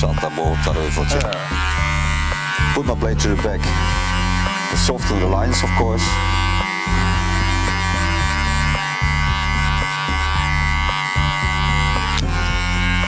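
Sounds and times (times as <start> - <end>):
background music with bass line: 0.0 - 13.0
electric hair clippers buzzing: 0.0 - 13.0.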